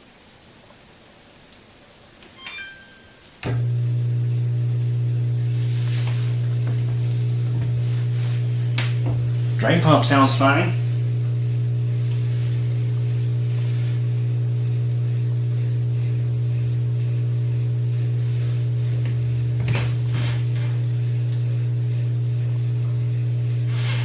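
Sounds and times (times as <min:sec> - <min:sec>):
dishwasher drain pump humming: 0:02.5 - 0:24.0.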